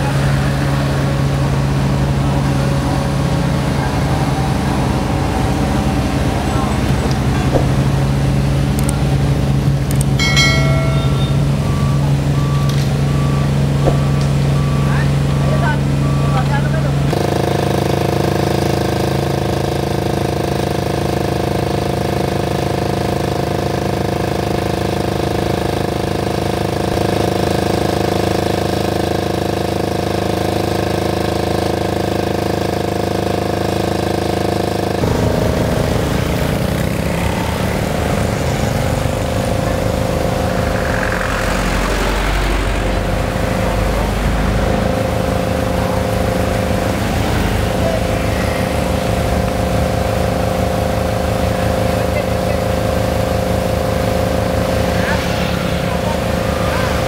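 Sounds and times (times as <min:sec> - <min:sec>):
diesel generator running: 0:00.0 - 0:57.0.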